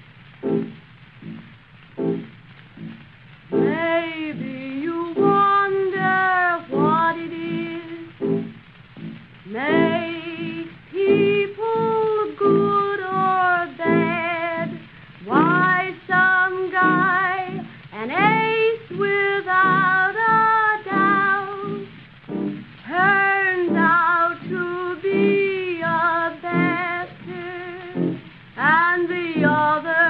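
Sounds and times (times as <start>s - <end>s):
muffled piano accompaniment: 0.0s - 30.0s
woman singing with vibrato: 3.6s - 30.0s.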